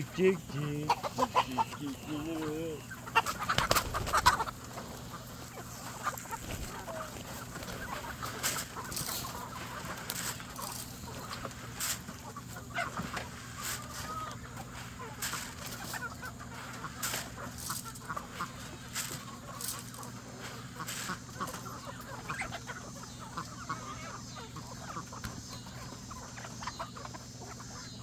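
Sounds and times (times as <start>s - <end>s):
chickens clucking and peeping: 0.0s - 28.0s
steady low hum: 0.0s - 28.0s.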